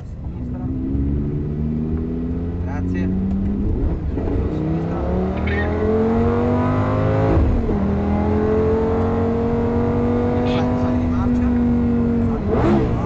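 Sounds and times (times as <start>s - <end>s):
car engine accelerating hard: 0.3s - 13.0s.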